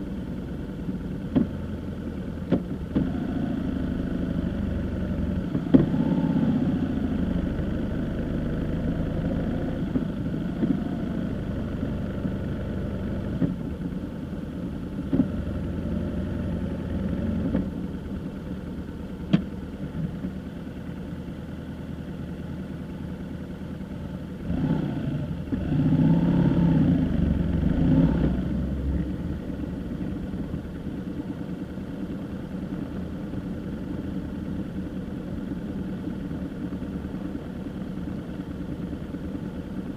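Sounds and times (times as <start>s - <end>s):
road drone: 0.0s - 39.9s
vehicle engine running: 0.0s - 39.9s.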